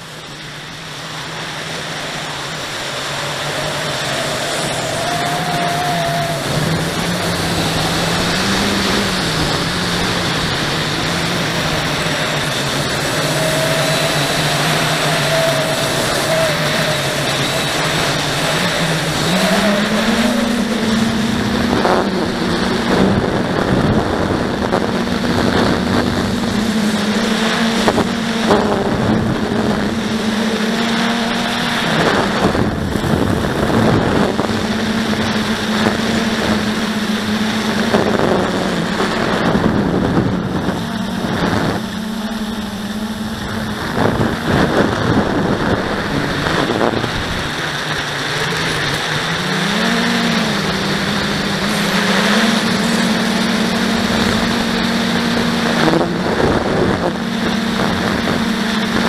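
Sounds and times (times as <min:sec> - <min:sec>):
quadcopter motors humming: 0:00.0 - 0:59.0
wind buffeting microphone: 0:00.0 - 0:59.0.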